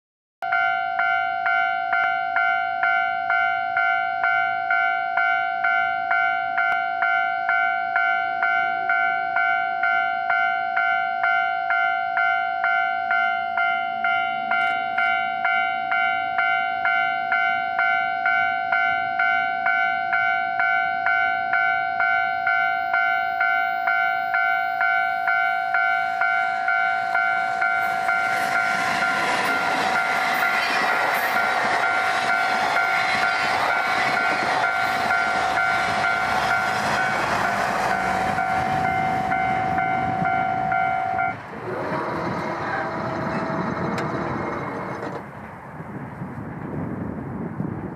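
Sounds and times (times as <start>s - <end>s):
level-crossing warning bell ringing: 0.4s - 44.7s
train passing on rails: 0.4s - 47.9s.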